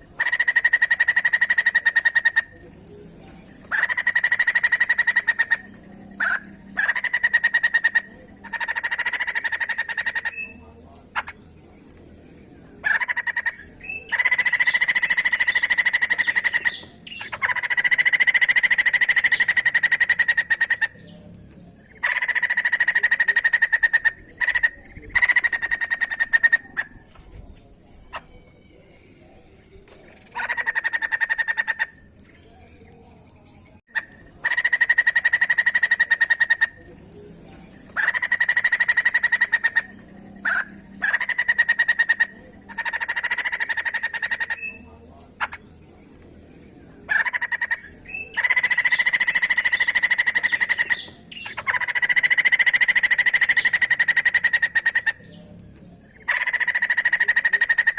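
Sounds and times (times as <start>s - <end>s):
bird buzzy chattering: 0.0s - 57.9s.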